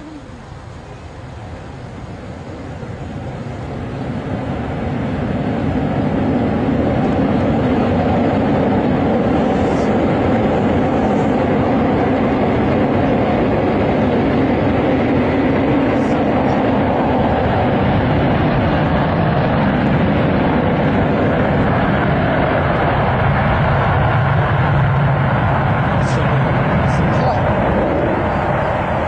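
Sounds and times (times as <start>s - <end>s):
vehicle noise: 0.0s - 29.0s.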